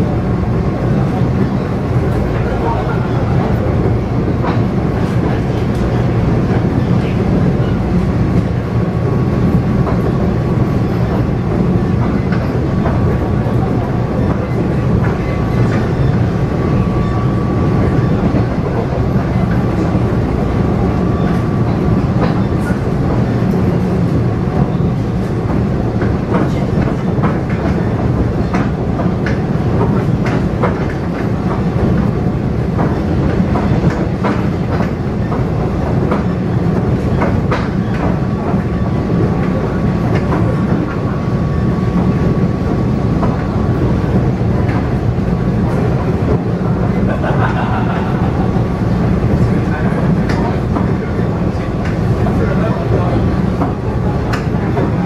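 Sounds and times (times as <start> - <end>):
track clicks and clacks: 0.0 - 55.0
train wheels rumbling on rail: 0.0 - 55.0.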